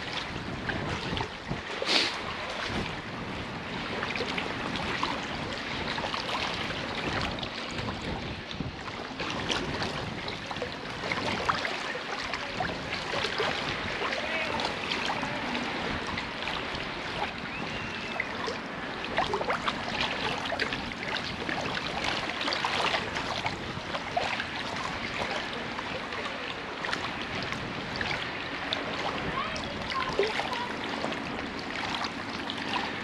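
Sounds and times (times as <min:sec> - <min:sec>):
sea water rushing and swishing: 0:00.0 - 0:33.0.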